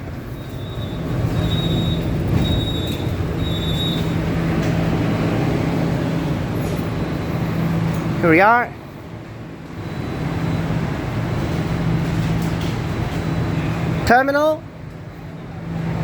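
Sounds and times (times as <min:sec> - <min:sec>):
train motor hum: 0:00.0 - 0:16.0
wheel and rail rushing noise: 0:00.0 - 0:16.0.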